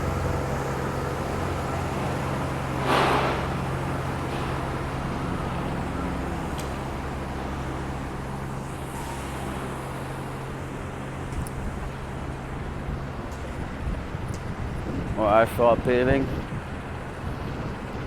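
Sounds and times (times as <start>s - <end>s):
heavy construction equipment humming: 0.0s - 18.0s.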